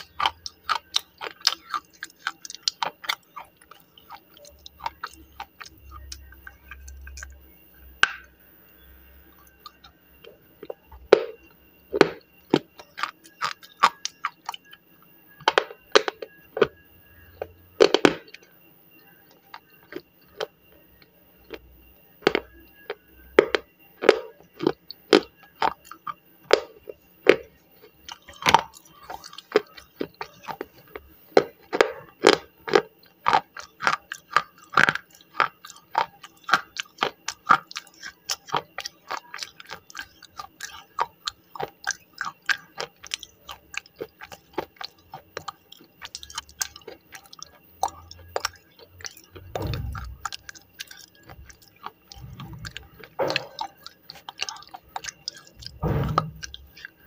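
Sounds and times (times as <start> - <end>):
crunching and chewing brittle stick: 0.0 - 57.0.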